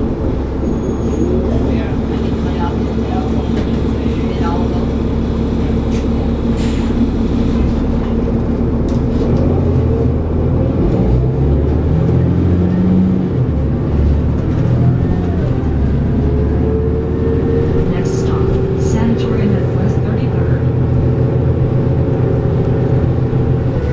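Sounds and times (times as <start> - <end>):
bus diesel engine running: 0.0 - 23.9.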